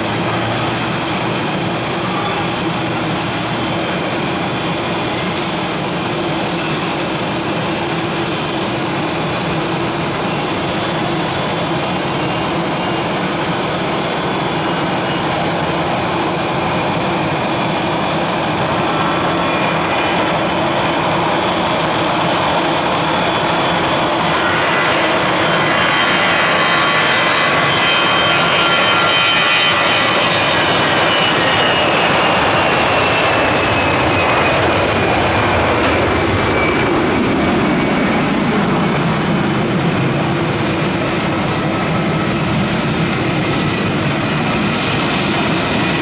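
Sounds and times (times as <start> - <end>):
jet engines humming: 0.0 - 46.0.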